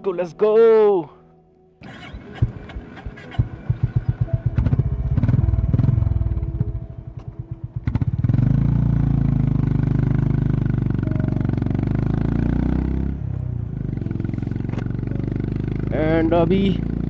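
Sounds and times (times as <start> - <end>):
motorcycle engine pulling away: 1.8 - 17.0.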